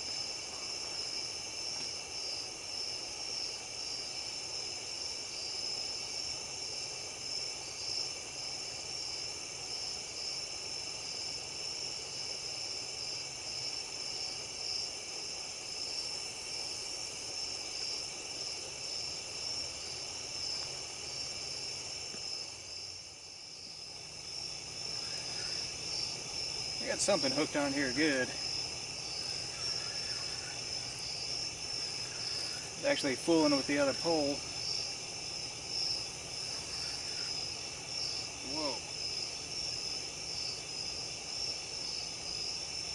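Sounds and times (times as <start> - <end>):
night insects trilling: 0.0 - 42.9.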